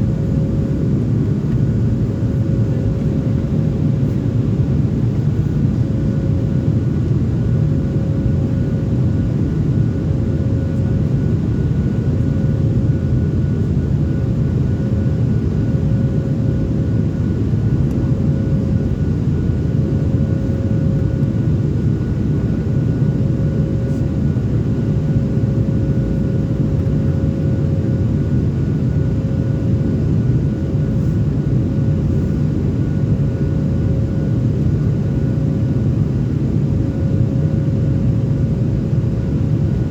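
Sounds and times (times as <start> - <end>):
airplane engine and airflow rumble: 0.0 - 39.9.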